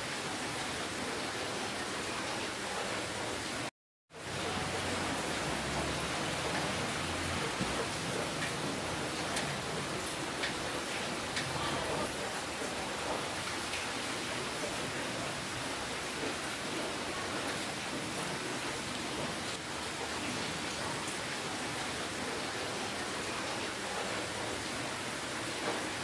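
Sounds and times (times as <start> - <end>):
steady rain on a surface: 0.0 - 26.0.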